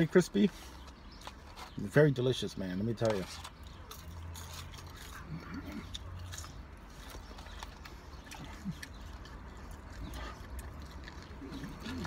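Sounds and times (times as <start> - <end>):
person chewing crispy fries: 0.0 - 12.0.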